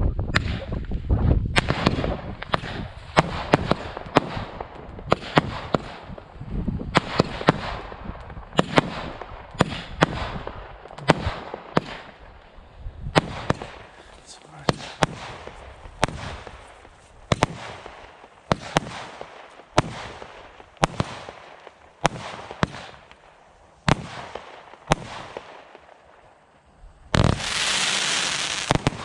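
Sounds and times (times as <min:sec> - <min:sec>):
firework bangs and cracks: 0:00.2 - 0:29.0
firework hiss and rumble: 0:01.6 - 0:29.0.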